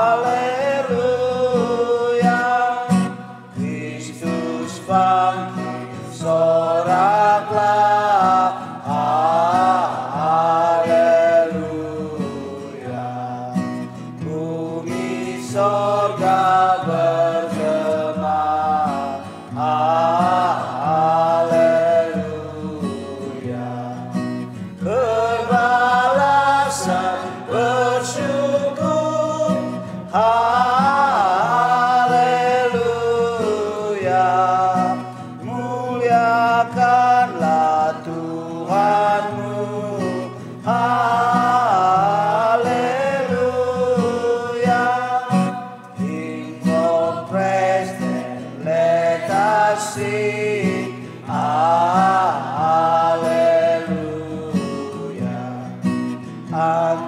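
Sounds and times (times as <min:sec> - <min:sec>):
acoustic guitar: 0:00.0 - 0:57.0
small group singing a hymn: 0:00.0 - 0:57.0.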